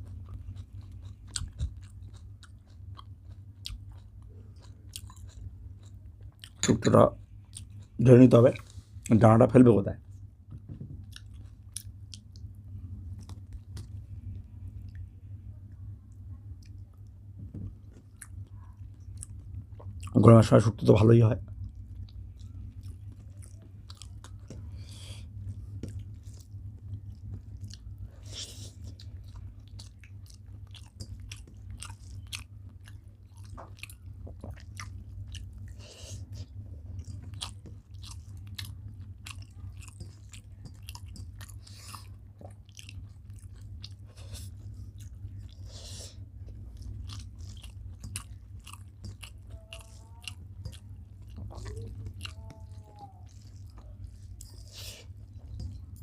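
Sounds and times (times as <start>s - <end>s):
chewing and mouth sounds: 0.0s - 9.2s, 10.0s - 15.0s, 16.6s - 56.0s
low hum: 0.0s - 56.0s.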